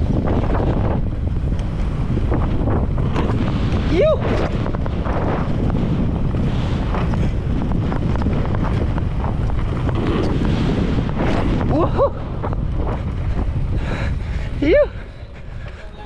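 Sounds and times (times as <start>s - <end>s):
bike rattling and knocking: 0.0s - 14.6s
low rumble: 0.0s - 16.0s
wind buffeting microphone: 0.0s - 16.0s.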